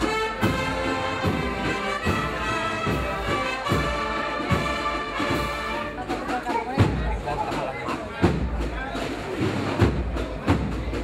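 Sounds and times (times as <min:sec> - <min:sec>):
brass band playing march: 0:00.0 - 0:11.0
steady drum beat: 0:00.0 - 0:11.0.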